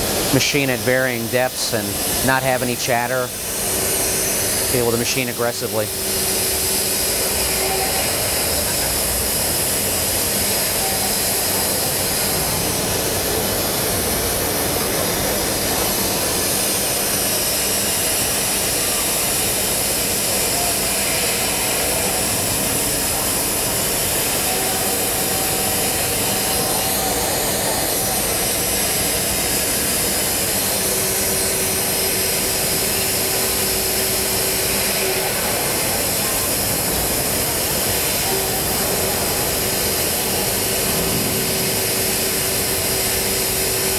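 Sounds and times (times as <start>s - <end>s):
cnc machine milling steel: 0.0s - 43.9s.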